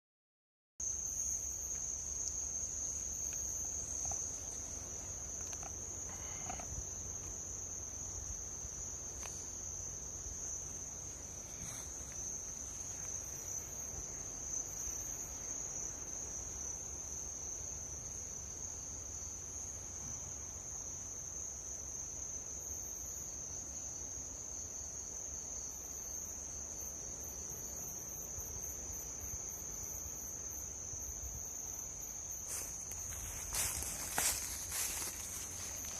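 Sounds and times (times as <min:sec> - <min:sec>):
insect chirping in short groups: 0:00.8 - 0:19.8, 0:20.7 - 0:35.9
crickets trilling: 0:00.8 - 0:35.9.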